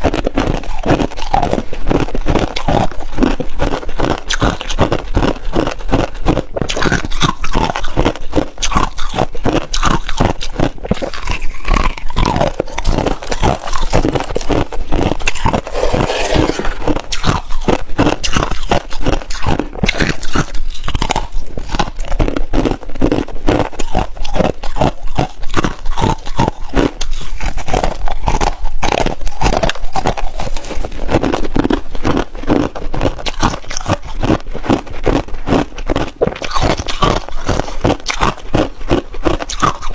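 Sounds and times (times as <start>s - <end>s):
frost crunching as chewed: 0.0s - 39.9s.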